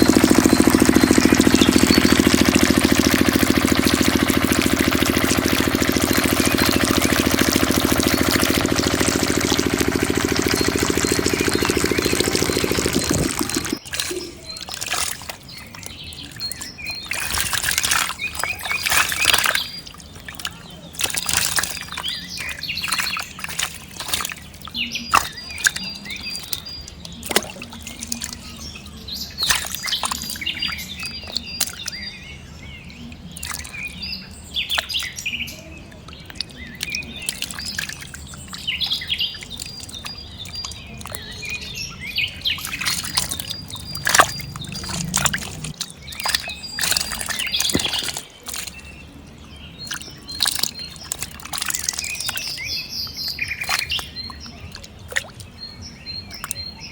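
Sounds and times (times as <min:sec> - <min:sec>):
birds chirping: 0:00.0 - 0:56.9
water splashing and dripping: 0:00.0 - 0:56.9.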